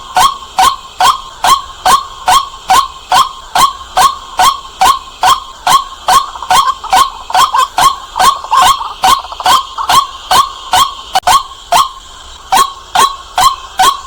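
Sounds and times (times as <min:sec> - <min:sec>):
waterhen calling: 0:00.0 - 0:14.0.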